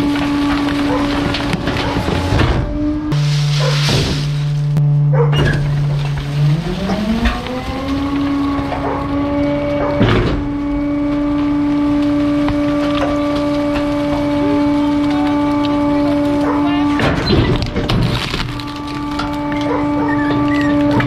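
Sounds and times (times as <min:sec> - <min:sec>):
garbage truck engine revving: 0:00.0 - 0:21.0.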